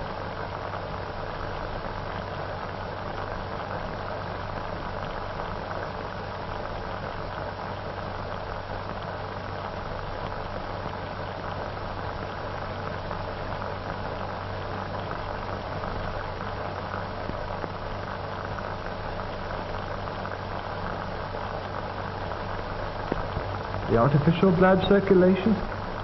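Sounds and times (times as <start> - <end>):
old film soundtrack hiss and crackle: 0.0 - 26.0.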